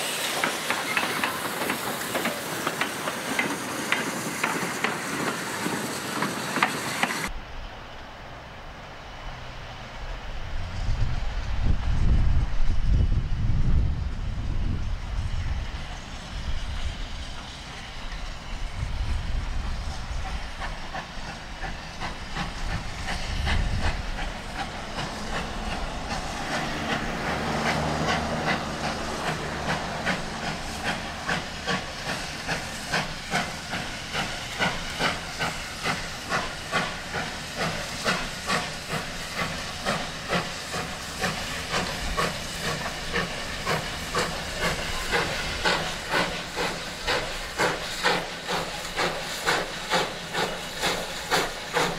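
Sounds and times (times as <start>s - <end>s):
steam locomotive exhaust chuffing: 0.0s - 7.4s, 9.1s - 51.9s
steady hiss of steam: 0.0s - 51.9s.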